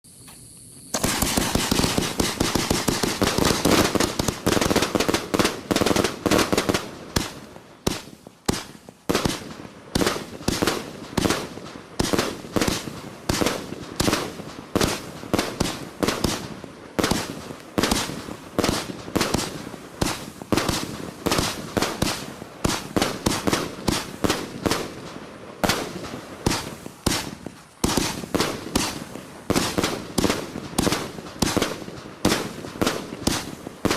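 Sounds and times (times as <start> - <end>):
firework crackling burst: 0.1 - 33.9
fireworks launching and bursting: 0.1 - 33.9.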